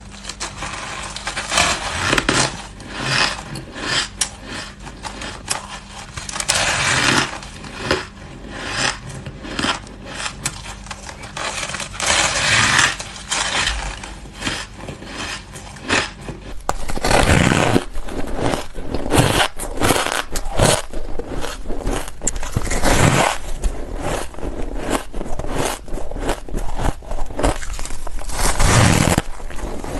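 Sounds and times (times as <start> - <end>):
ice being chewed: 0.1 - 29.9.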